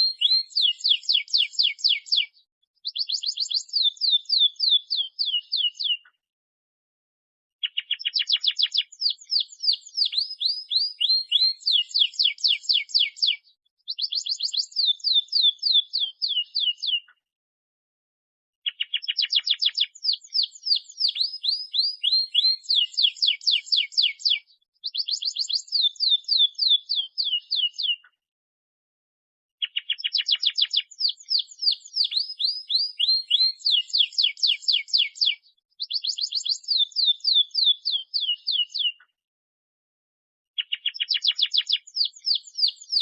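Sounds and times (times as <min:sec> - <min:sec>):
canary singing trills: 0:00.0 - 0:06.1, 0:07.6 - 0:17.1, 0:18.6 - 0:28.1, 0:29.6 - 0:39.1, 0:40.6 - 0:43.0.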